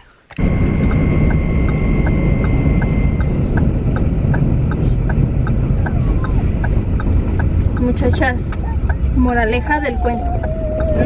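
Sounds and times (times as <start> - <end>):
engine and road rumble: 0.2 - 11.0
steady high tone: 0.4 - 11.0
turn signal ticking: 0.4 - 11.0.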